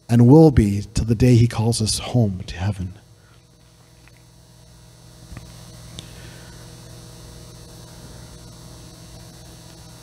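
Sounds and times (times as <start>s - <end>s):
low electrical mains hum: 0.0s - 10.0s.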